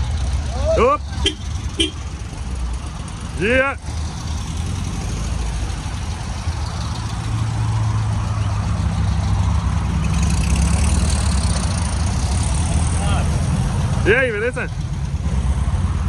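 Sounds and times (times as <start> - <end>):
car engines driving past: 0.0 - 16.0.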